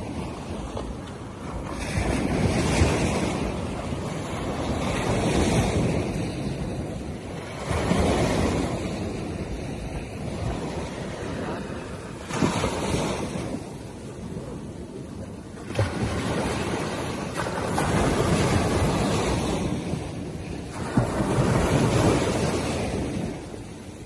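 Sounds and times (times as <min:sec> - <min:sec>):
waves washing on beach: 0:00.0 - 0:24.0
wind buffeting microphone: 0:00.0 - 0:24.0.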